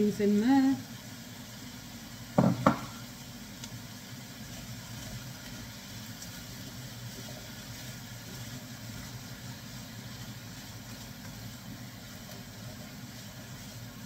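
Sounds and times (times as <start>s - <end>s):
vegetables cooking in a pan: 0.0s - 14.0s
stirring in a pan: 0.1s - 14.0s.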